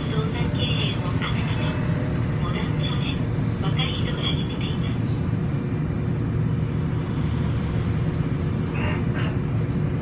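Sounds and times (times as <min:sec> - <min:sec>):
streetcar rumble from inside: 0:00.0 - 0:10.0.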